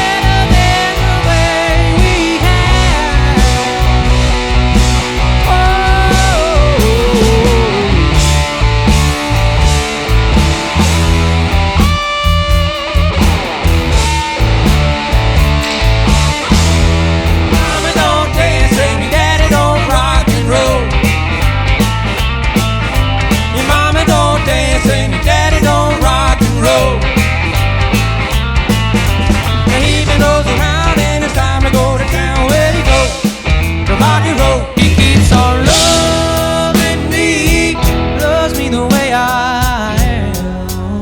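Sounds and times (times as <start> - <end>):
bass line: 0.0 - 41.0
drums beating: 0.0 - 41.0
rock band playing: 0.0 - 41.0.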